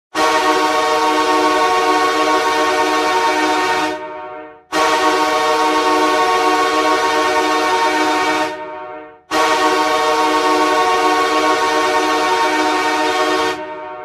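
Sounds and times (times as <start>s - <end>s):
hockey goal horn blast: 0.1s - 14.0s.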